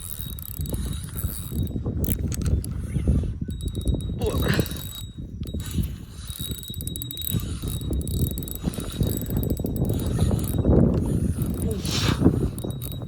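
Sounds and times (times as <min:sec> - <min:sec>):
fishing reel clicking: 0:00.0 - 0:13.0.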